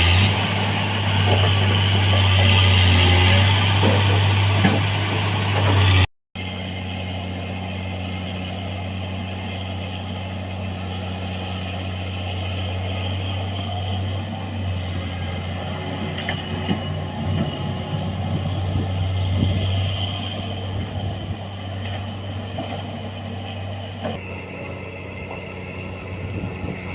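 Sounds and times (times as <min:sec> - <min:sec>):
excavator diesel engine humming: 0:00.0 - 0:26.9.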